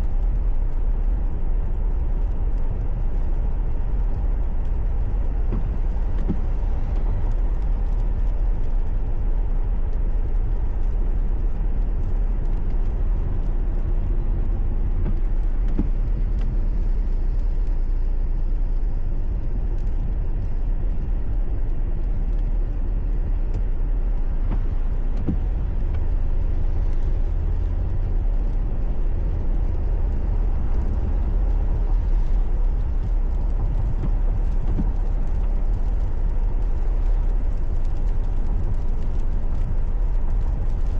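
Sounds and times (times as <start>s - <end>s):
car driving on highway: 0.0s - 40.9s.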